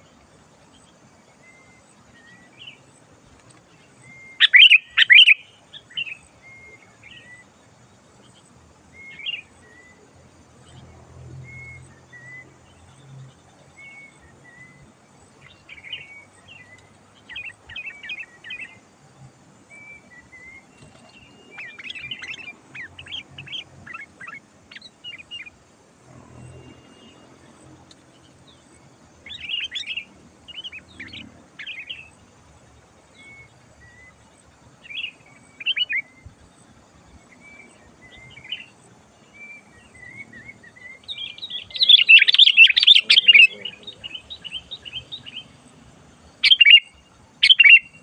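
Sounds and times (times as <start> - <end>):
bulbul song: 0.0 - 12.8, 13.4 - 19.0, 19.6 - 25.7, 26.6 - 48.0.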